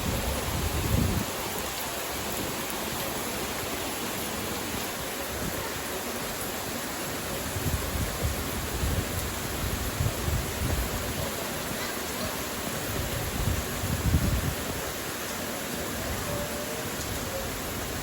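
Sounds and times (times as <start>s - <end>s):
rain hiss: 0.0s - 18.0s
river water rushing: 0.0s - 18.0s.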